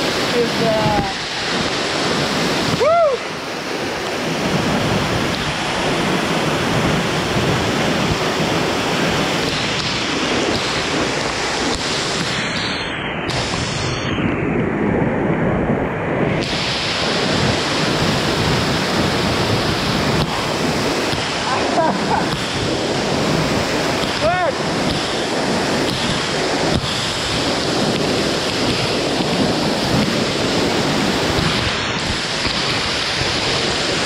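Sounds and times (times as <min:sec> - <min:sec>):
waterfall rushing: 0:00.0 - 0:14.1, 0:16.2 - 0:34.0
wind buffeting microphone: 0:00.0 - 0:34.0.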